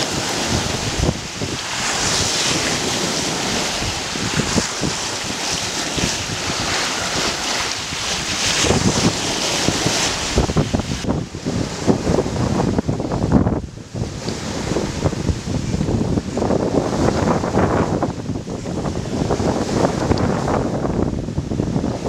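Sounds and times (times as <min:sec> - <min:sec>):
water rushing along boat hull: 0:00.0 - 0:22.0
wind buffeting microphone: 0:00.0 - 0:22.0.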